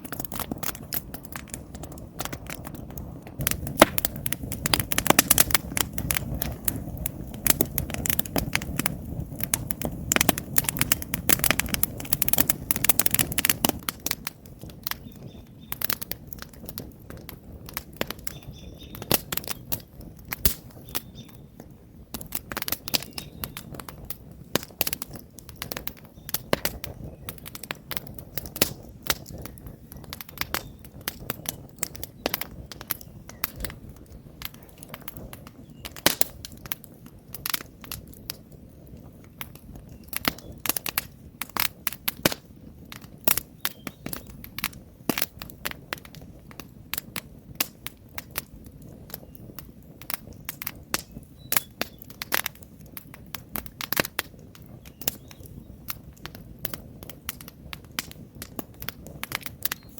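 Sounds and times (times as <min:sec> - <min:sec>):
campfire crackling and popping: 0:00.0 - 0:59.9
low rush of flame: 0:00.0 - 0:59.9.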